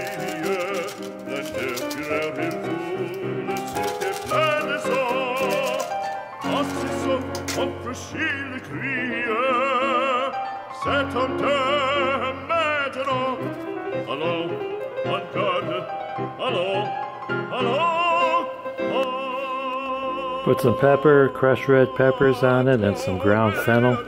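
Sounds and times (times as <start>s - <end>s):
opera singer with accompaniment: 0.0s - 24.0s.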